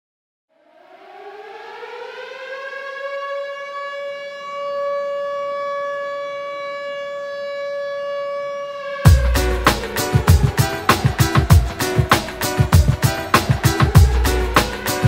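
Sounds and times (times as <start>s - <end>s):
civil defence siren wailing: 0.5s - 15.0s.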